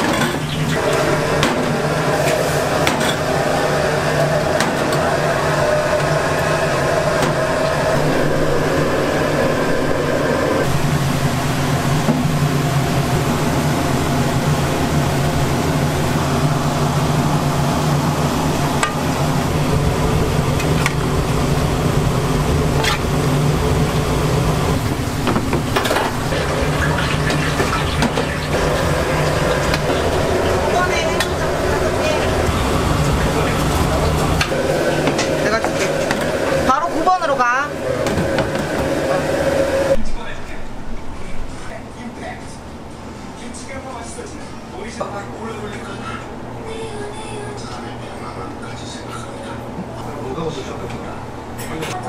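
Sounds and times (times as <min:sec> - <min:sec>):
burners humming: 0:00.0 - 0:51.7.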